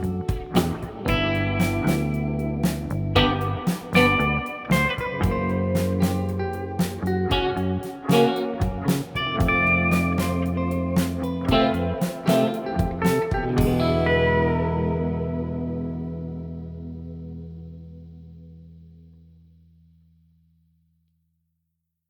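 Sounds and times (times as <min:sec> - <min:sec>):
electric guitar music with beat: 0:00.0 - 0:18.6.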